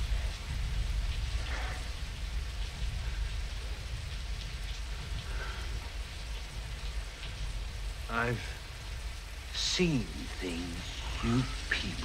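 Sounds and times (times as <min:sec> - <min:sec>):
low steady rumble: 0:00.0 - 0:12.0
steady rain falling: 0:00.0 - 0:12.0.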